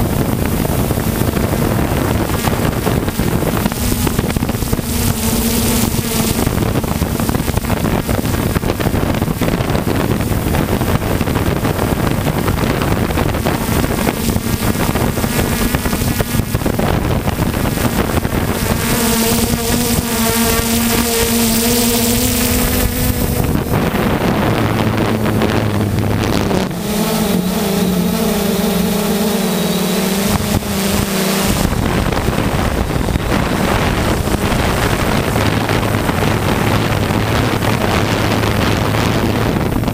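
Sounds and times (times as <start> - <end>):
drone propellers whirring: 0.0 - 39.9
wind on microphone: 0.0 - 39.9.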